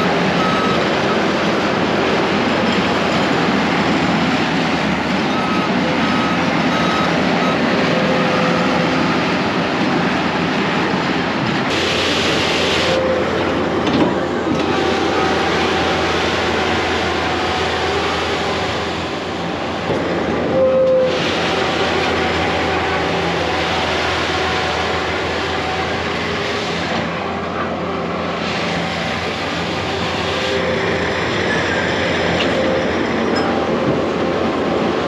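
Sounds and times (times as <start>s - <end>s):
track loader engine running: 0.0s - 35.0s.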